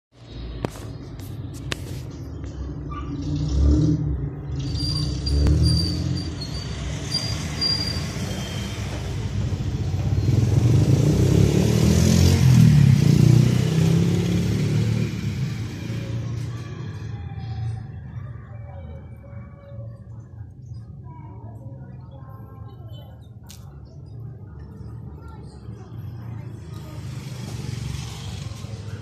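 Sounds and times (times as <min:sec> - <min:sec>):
vehicle engine rumbling: 0:00.1 - 0:29.0.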